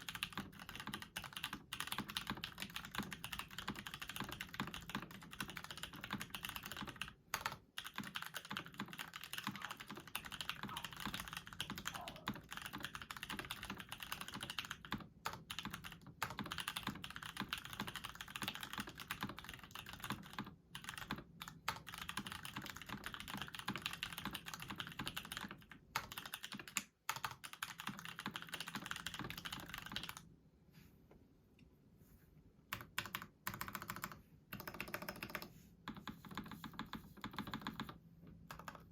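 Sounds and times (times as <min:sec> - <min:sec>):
mechanical keyboard typing: 0:00.0 - 0:30.3, 0:32.7 - 0:38.9.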